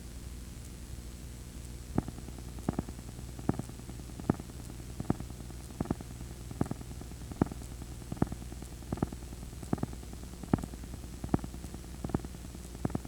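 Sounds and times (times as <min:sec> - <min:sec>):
blank tape hum and hiss: 0:00.0 - 0:13.0.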